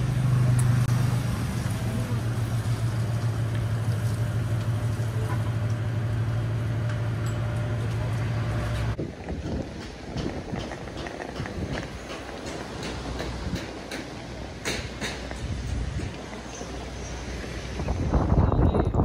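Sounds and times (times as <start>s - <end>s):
engine running: 0.0s - 18.6s.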